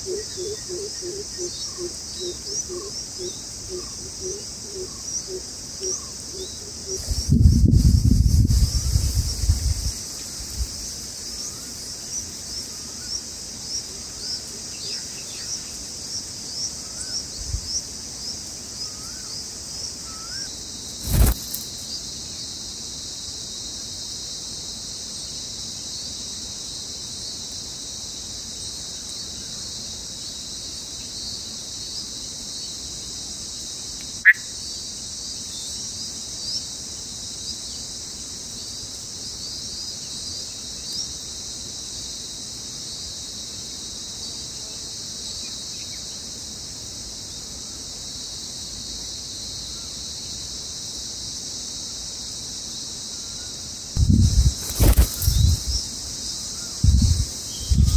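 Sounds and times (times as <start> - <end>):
crickets trilling: 0.0 - 57.9.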